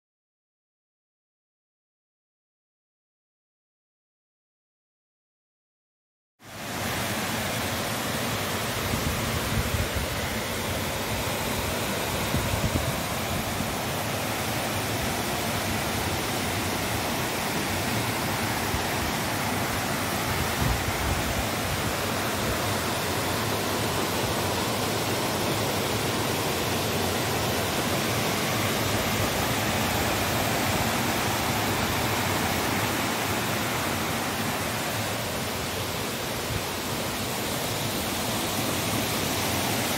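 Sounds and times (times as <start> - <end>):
stream rushing over rocks: 6.4 - 39.9.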